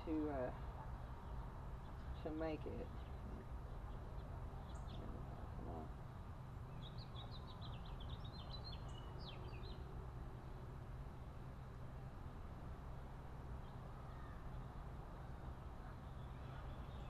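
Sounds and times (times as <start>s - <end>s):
low ambient rumble: 0.0s - 17.0s
songbird chirping: 0.0s - 17.0s.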